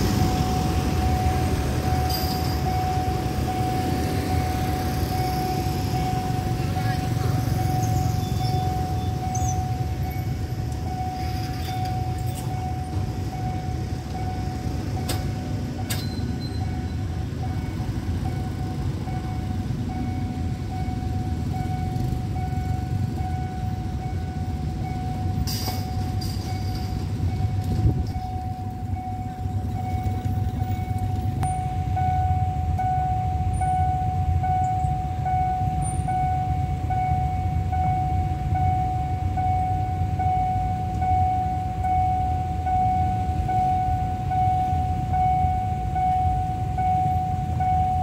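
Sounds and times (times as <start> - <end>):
level crossing warning tone: 0.0 - 48.0.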